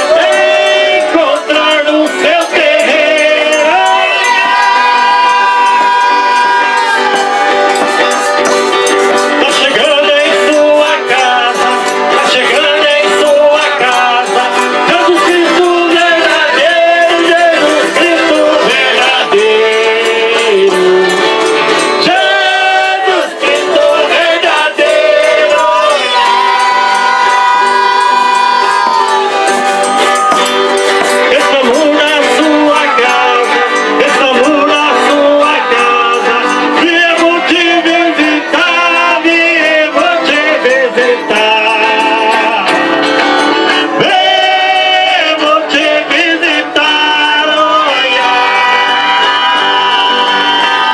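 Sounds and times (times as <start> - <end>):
jingling rattle percussion: 0.0 - 50.9
voices singing: 0.0 - 50.9.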